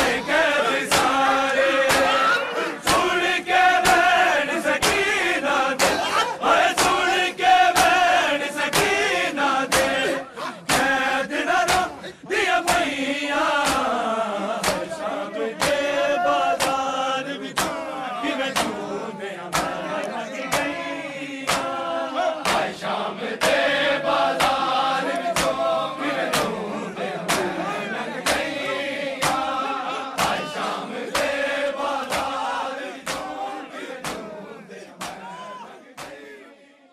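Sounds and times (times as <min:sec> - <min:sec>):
sharp rhythmic beats: 0:00.0 - 0:36.4
men chanting in chorus: 0:00.0 - 0:36.9.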